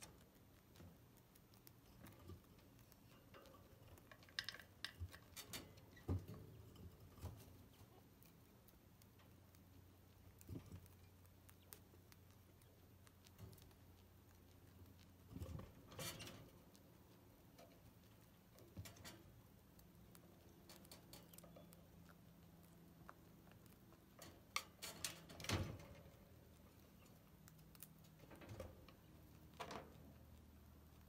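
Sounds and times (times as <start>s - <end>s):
chinchilla gnawing stick: 0.0s - 31.0s.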